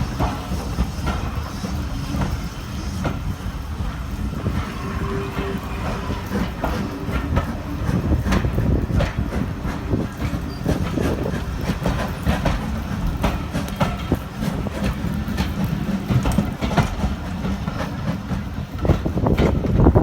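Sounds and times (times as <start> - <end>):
train rumbling: 0.0 - 20.0
wheels clattering over rails: 0.0 - 20.0.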